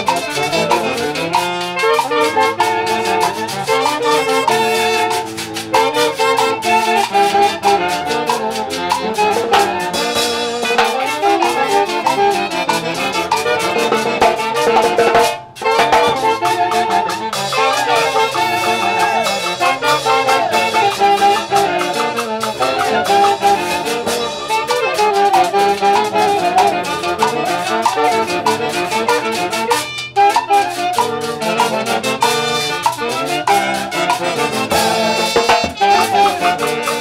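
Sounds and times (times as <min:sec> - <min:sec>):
brass band music: 0:00.0 - 0:37.0.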